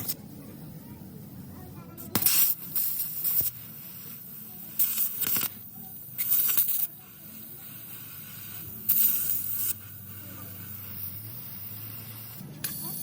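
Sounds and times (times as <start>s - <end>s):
compressed air hissing: 2.0s - 13.0s.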